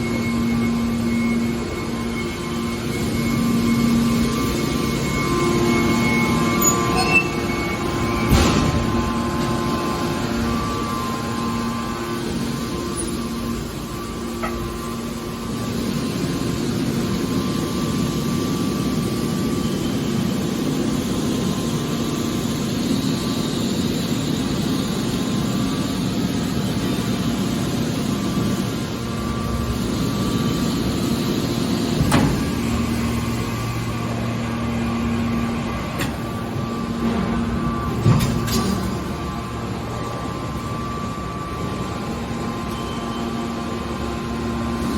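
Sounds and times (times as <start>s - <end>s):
baler machinery humming: 0.0s - 44.9s.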